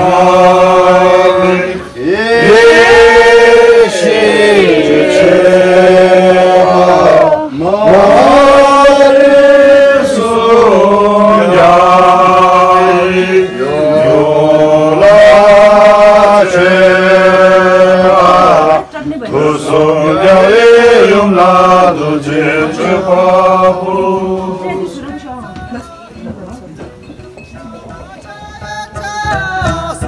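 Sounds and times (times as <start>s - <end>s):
voices chanting long notes: 0.0s - 25.2s.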